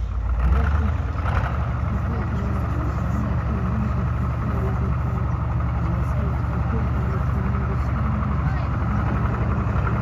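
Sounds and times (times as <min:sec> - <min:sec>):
tank diesel engine running: 0:00.0 - 0:10.0
faint voices: 0:00.5 - 0:10.0.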